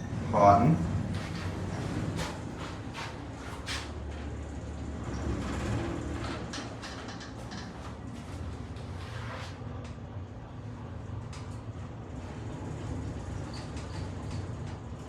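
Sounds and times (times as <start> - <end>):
elevator humming: 0.0 - 15.0.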